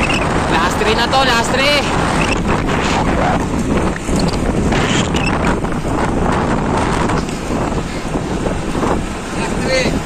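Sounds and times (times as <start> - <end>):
wind roar on microphone: 0.0 - 10.0.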